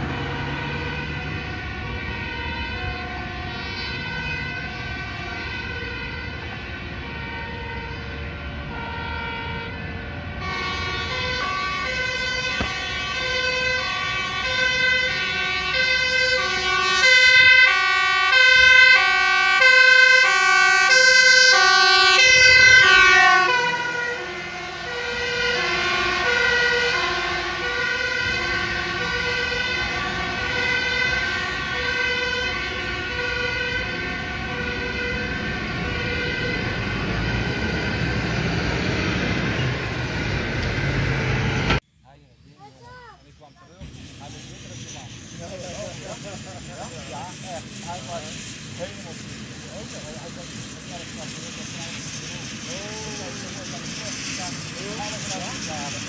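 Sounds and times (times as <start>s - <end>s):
two-tone emergency sirens: 0.0s - 41.8s, 43.3s - 56.0s.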